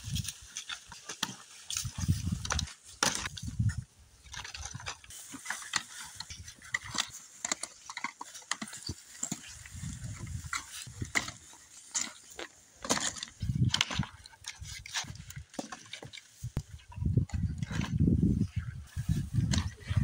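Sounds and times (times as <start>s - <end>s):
dry grass rustling: 0.0s - 20.0s
wooden branches clattering: 0.0s - 20.0s.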